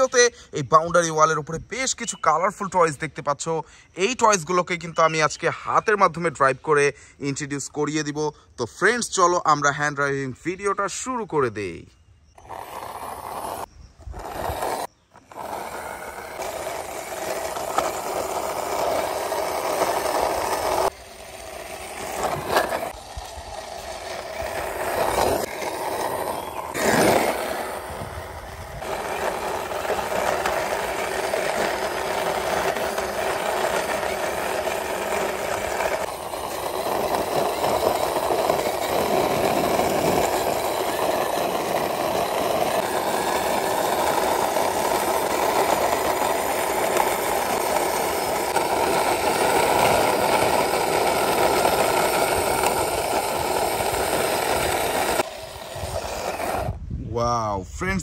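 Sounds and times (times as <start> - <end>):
toy wheels rolling on concrete: 0.0 - 56.9.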